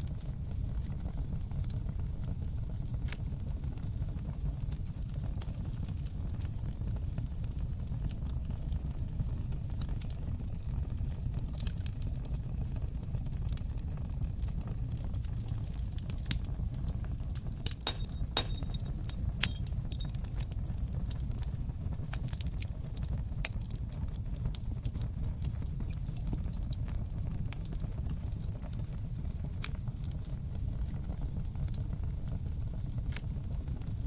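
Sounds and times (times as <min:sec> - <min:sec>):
fire pops and snaps: 0:00.0 - 0:34.0
low flame rumble: 0:00.0 - 0:34.0
wood fire crackling: 0:00.0 - 0:34.0.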